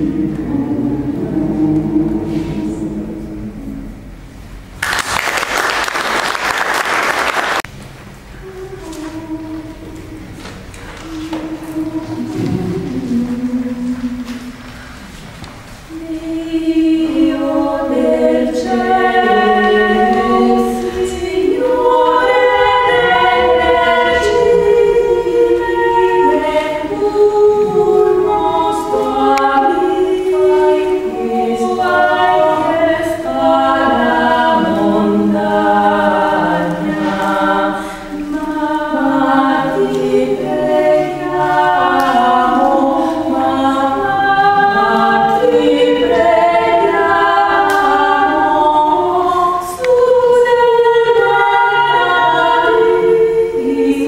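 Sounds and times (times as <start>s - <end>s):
mixed choir singing a cappella: 0.0s - 7.6s, 8.4s - 54.0s.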